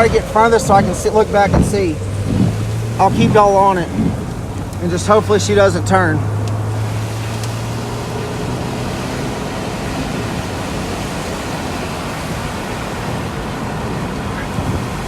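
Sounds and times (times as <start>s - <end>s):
heavy rain and wind on car: 0.0s - 15.0s.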